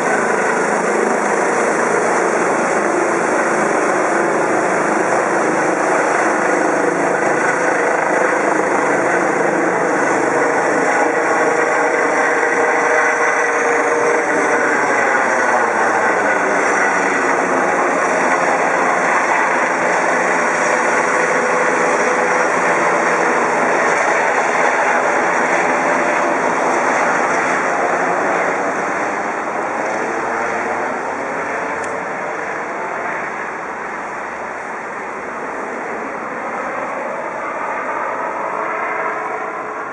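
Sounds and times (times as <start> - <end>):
helicopter flying overhead: 0.0 - 39.9.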